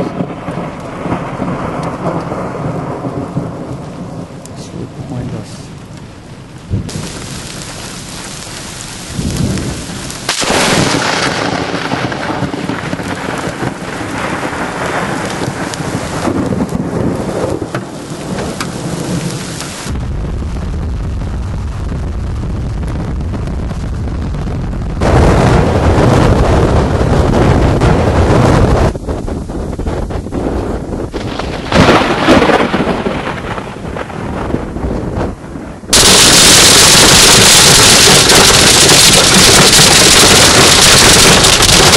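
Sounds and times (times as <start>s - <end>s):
thunder: 0.0s - 4.4s, 9.1s - 41.9s
heavy rain: 0.0s - 41.9s.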